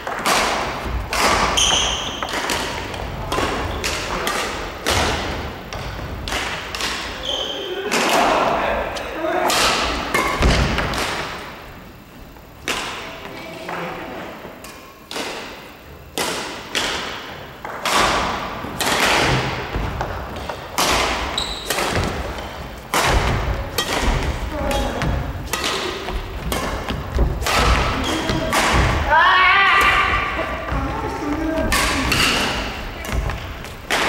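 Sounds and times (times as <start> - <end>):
rackets hitting shuttlecock: 0.0 - 8.4, 9.4 - 11.5, 12.6 - 13.2, 14.6 - 29.1, 29.7 - 34.0.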